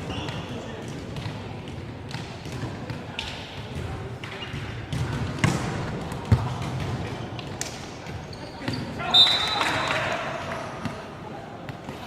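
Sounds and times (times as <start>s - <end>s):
background chatter: 0.0s - 12.0s.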